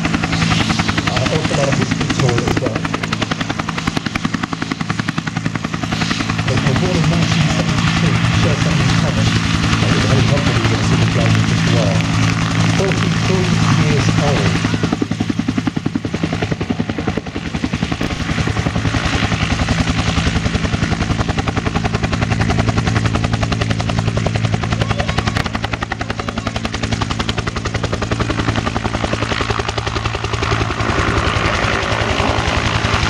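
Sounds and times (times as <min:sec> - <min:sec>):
helicopter engine drone: 0:00.0 - 0:33.0
helicopter rotor beating: 0:00.0 - 0:33.0.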